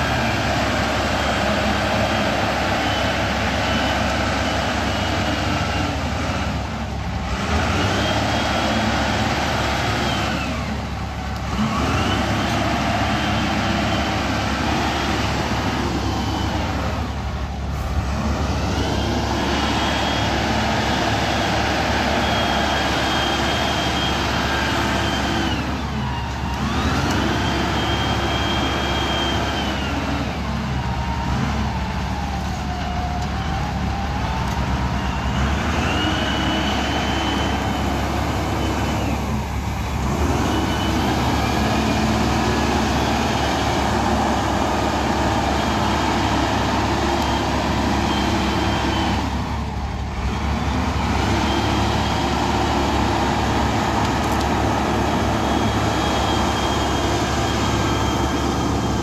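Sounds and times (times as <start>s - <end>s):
wheel loader diesel engine revving: 0.0s - 59.0s.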